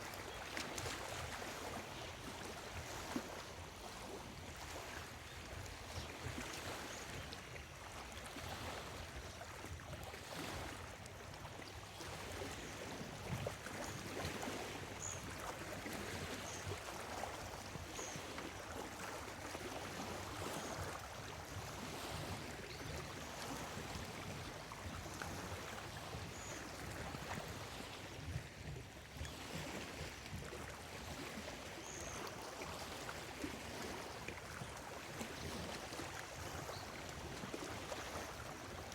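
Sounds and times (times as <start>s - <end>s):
lake waves lapping: 0.0s - 38.9s.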